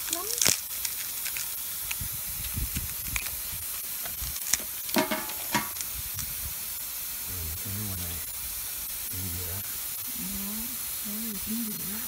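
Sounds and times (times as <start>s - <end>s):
air hissing from tire: 0.7s - 12.0s.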